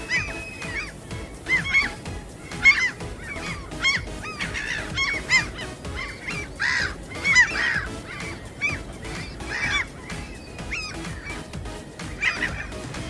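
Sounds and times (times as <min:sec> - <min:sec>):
gulls squawking: 0:00.0 - 0:13.0.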